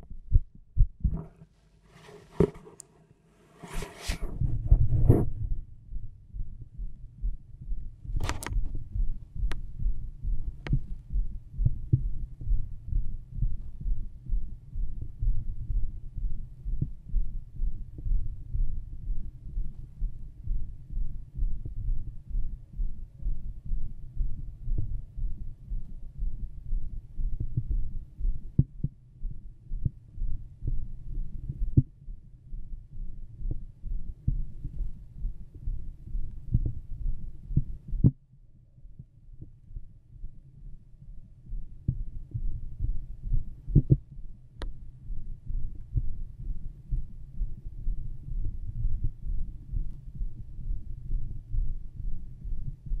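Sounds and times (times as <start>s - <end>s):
heartbeat through stethoscope: 0.0s - 1.5s, 4.1s - 53.0s.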